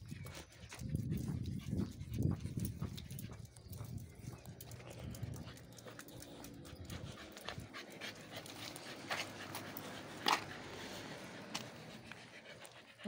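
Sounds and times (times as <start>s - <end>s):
footsteps on asphalt: 0.0s - 13.0s
dog panting: 0.1s - 13.0s.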